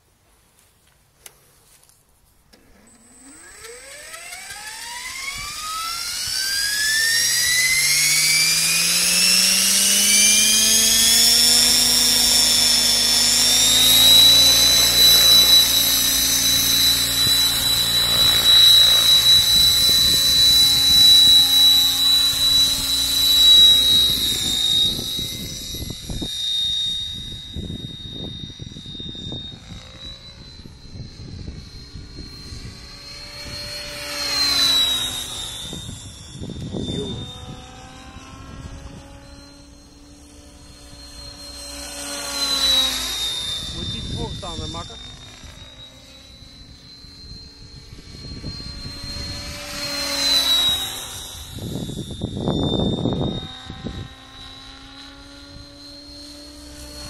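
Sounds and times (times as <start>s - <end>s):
electric helicopter motor whine: 0.0s - 57.0s.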